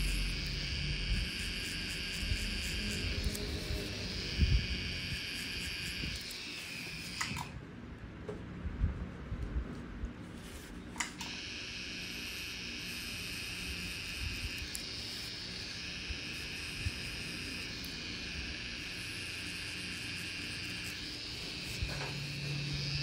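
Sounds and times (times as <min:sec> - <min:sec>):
tattoo machine high-pitched whine: 0:00.0 - 0:07.6, 0:11.0 - 0:23.0.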